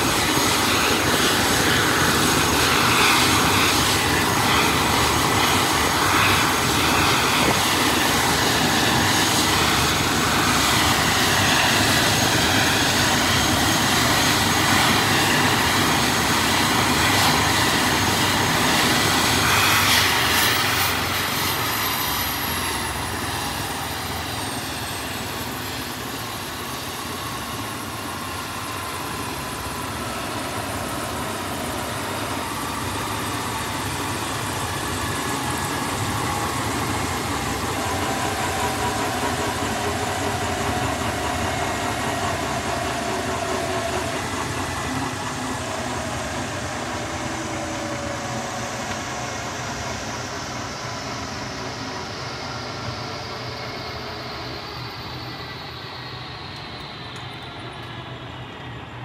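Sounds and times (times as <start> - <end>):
falling turbine whine: 0.0 - 59.0
helicopter turbine whine and rotor: 0.0 - 59.0.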